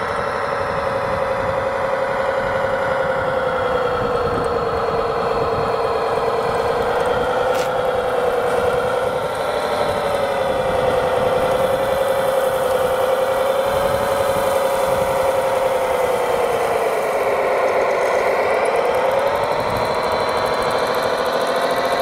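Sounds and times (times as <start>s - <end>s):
model dozer motor drone: 0.0s - 22.0s.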